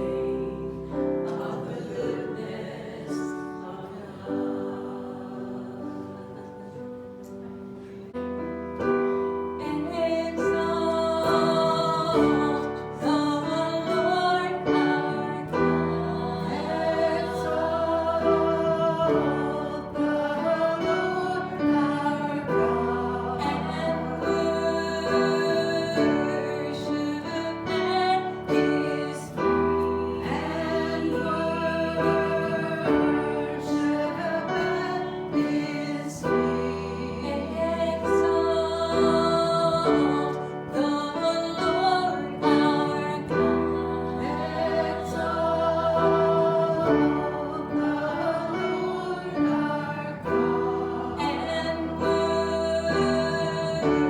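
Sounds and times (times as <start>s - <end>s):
piano accompaniment: 0.0s - 54.0s
voices singing a hymn: 0.0s - 54.0s.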